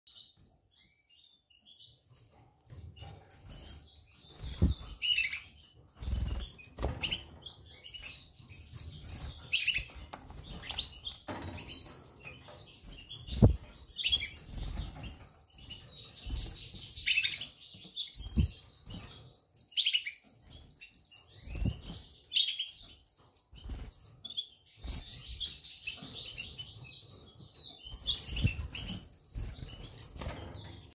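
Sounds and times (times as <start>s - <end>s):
canaries chirping: 0.1s - 30.9s.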